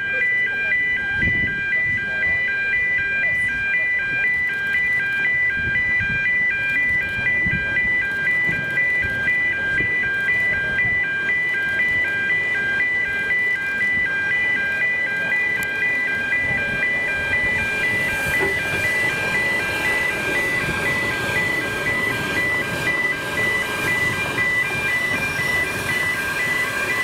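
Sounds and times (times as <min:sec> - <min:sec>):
electronic alarm beeping: 0:00.0 - 0:27.0.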